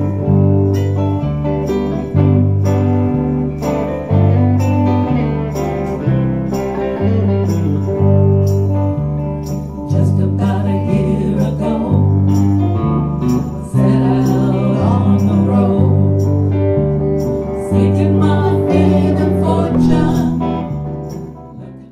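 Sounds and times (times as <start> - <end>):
bass line: 0.0 - 21.9
guitar-led band music: 0.0 - 21.9.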